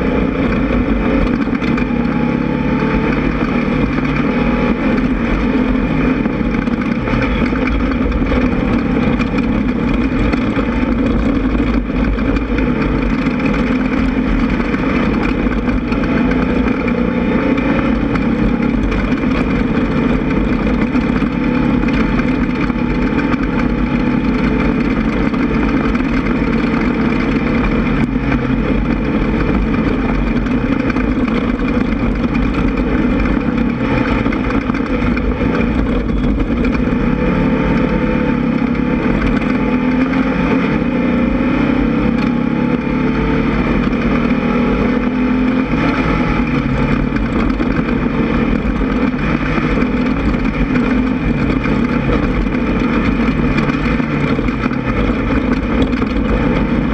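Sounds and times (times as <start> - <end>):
constant rushing noise: 0.0 - 56.9
engine running hard under load: 0.0 - 56.9.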